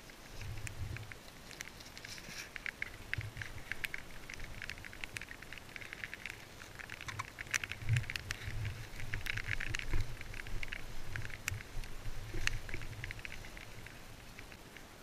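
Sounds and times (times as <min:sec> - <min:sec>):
crackling and pattering clicks: 0:00.0 - 0:15.0.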